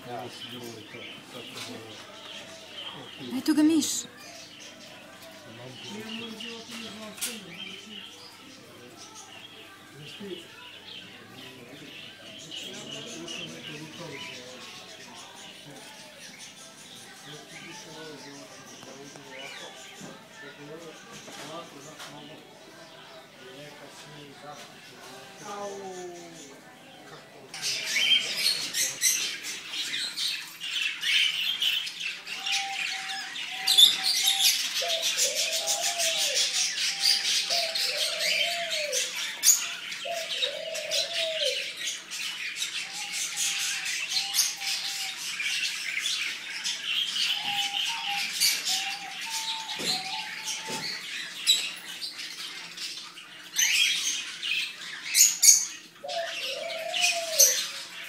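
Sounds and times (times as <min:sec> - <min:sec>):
caged birds chirping: 0:00.0 - 0:58.0.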